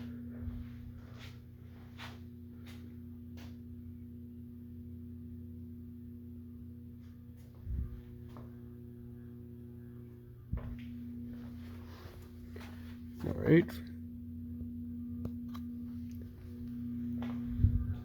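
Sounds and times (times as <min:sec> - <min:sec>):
ceiling fan motor hum: 0:00.0 - 0:18.0.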